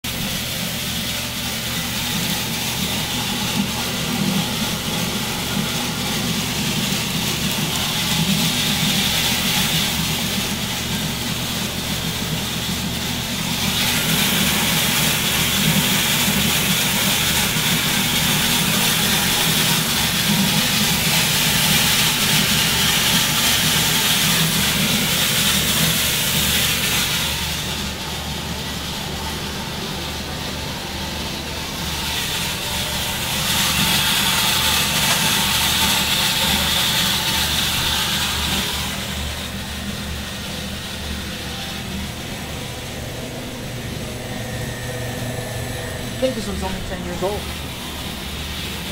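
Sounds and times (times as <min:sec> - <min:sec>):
coffee roaster machine hum: 0:00.0 - 0:48.9.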